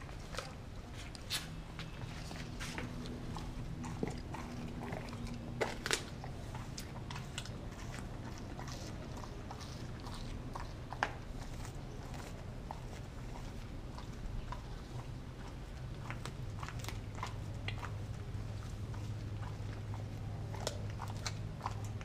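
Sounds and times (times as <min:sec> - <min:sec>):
dog chewing and crunching: 0:00.0 - 0:22.0.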